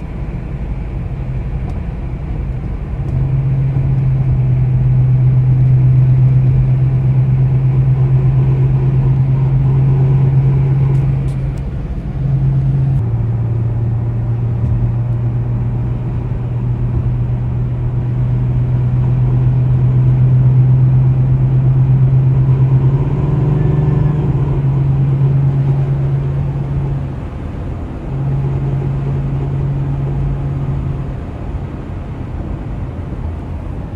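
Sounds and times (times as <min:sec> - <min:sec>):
car driving with low drone: 0:00.0 - 0:33.9.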